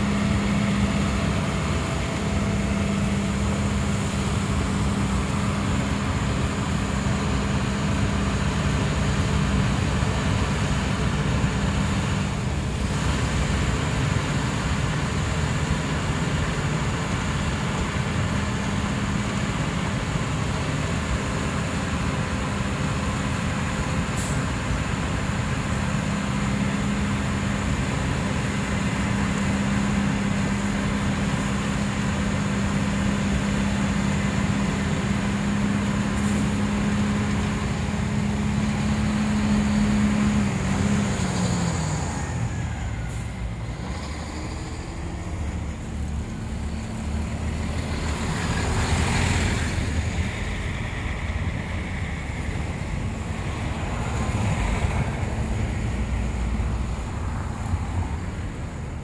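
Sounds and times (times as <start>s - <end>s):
snowplow engine and blower drone: 0.0s - 59.0s.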